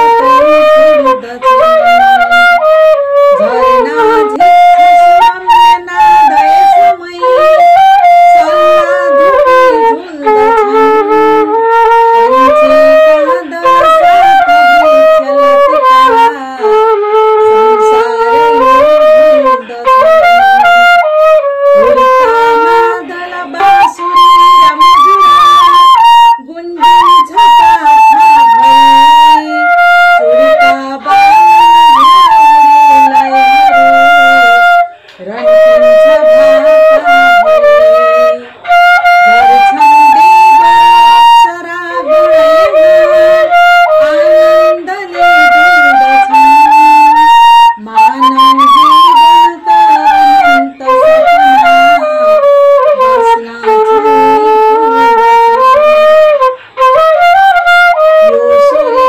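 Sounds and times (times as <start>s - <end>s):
flute melody: 0.0s - 59.0s.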